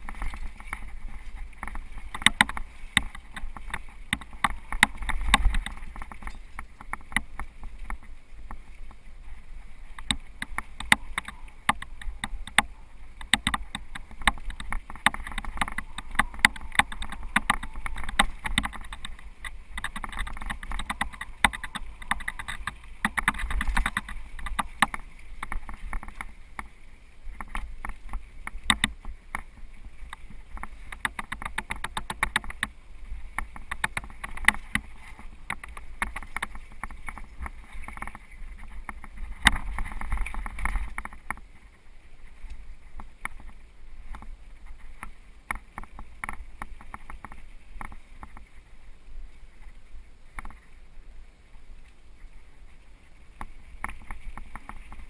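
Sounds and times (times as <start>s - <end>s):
bike rattling on dirt trail: 0.0s - 55.0s
wind rumble on microphone: 0.0s - 55.0s.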